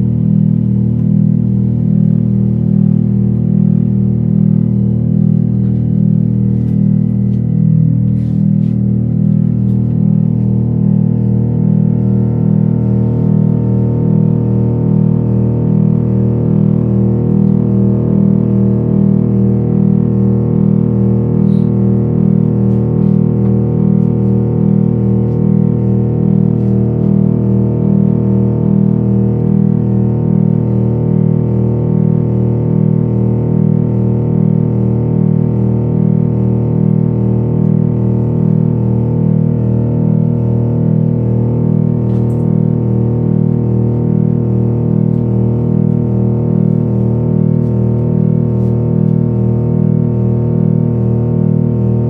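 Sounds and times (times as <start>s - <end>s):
synthesizer low pulsing drone: 0.0s - 52.0s.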